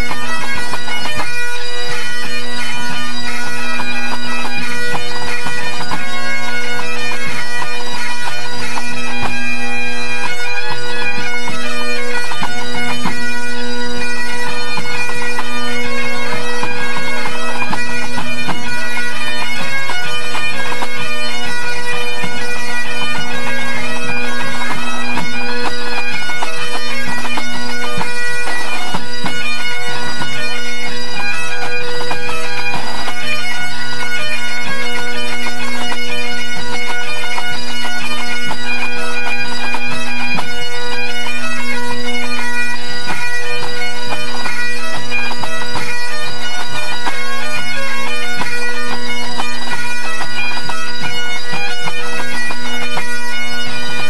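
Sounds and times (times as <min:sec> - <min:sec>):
bagpipe chanters playing melody: 0:00.0 - 0:54.0
steady bagpipe drones: 0:00.0 - 0:54.0.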